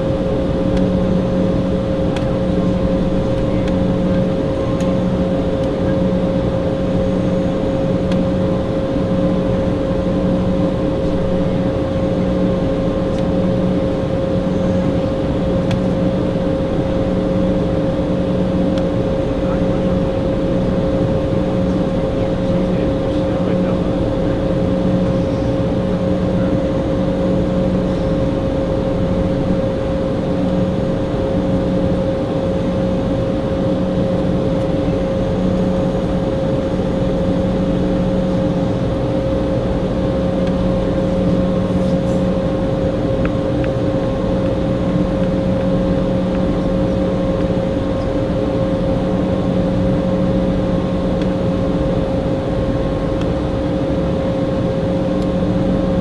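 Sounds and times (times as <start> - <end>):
airplane cabin drone with whine: 0.0 - 56.0.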